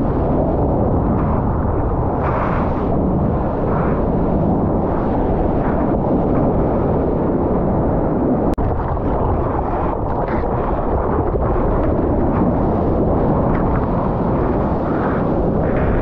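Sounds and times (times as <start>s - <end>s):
muffled wind rush: 0.0s - 16.0s.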